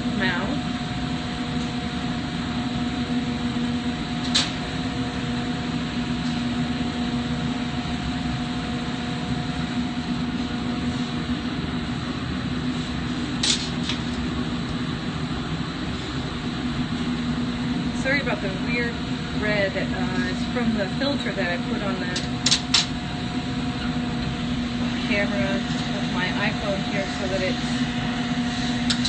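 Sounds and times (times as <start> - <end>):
ventilation hum: 0.0 - 29.0.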